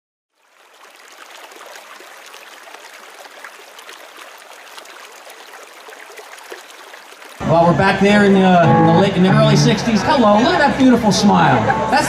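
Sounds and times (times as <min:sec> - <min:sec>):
babbling stream: 0:00.3 - 0:12.0.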